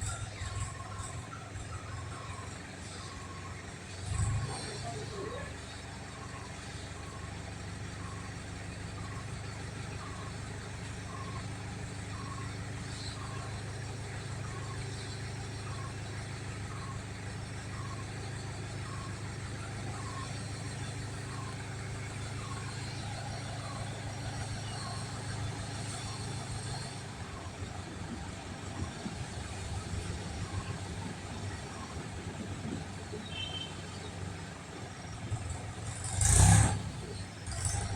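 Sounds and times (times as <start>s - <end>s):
low engine hum: 0.0s - 37.9s.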